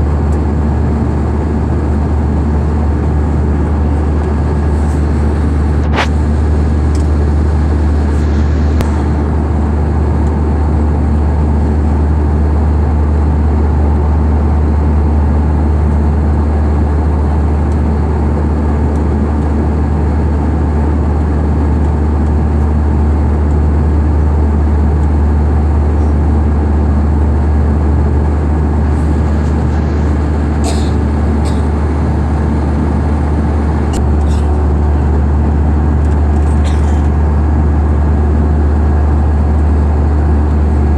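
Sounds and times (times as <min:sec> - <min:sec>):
vehicle drone: 0:00.0 - 0:40.9.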